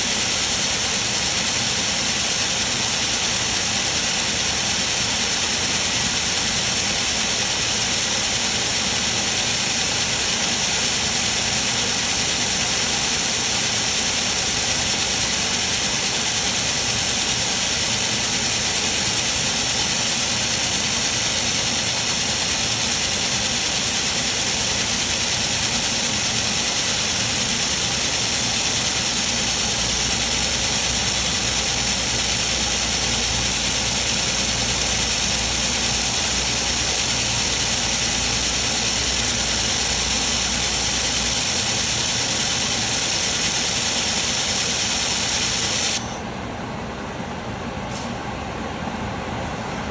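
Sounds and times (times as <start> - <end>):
laser welding hiss and hum: 0.0 - 46.1.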